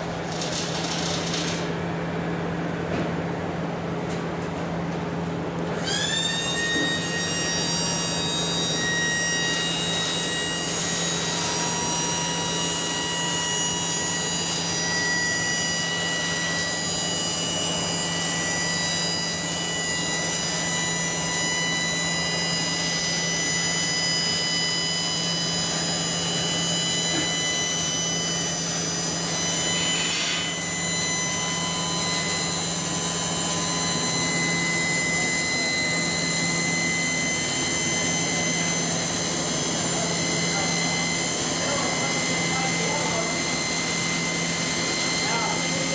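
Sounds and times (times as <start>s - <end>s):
hydraulic pump humming and whining: 0.0s - 45.9s.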